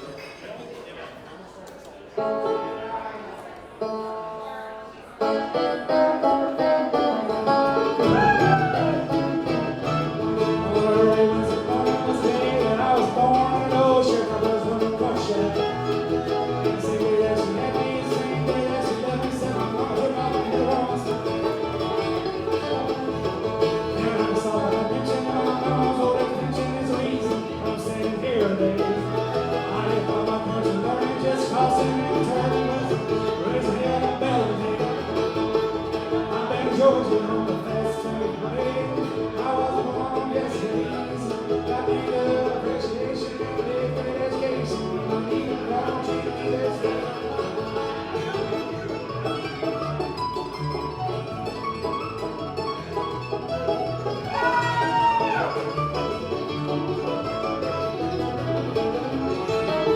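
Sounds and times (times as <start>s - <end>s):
banjo picking: 2.0s - 59.9s
guitar picking: 3.8s - 59.9s
bass notes: 5.9s - 59.9s.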